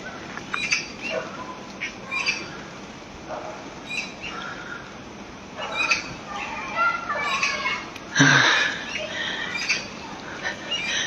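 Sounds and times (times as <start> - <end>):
rain falling in trees: 0.0 - 11.0.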